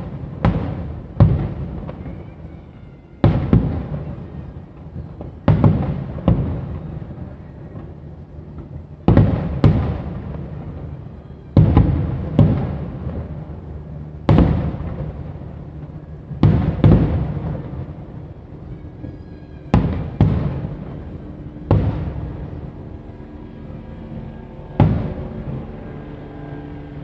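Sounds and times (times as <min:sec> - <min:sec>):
firework shells booming: 0:00.0 - 0:02.6, 0:03.2 - 0:07.9, 0:08.5 - 0:13.5, 0:14.2 - 0:22.8, 0:24.2 - 0:25.7.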